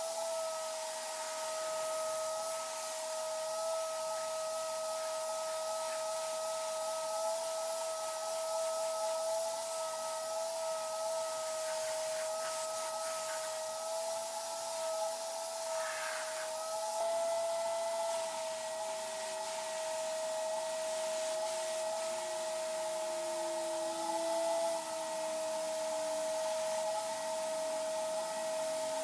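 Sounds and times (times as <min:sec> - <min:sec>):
air tool hiss and whine: 0:00.0 - 0:29.0.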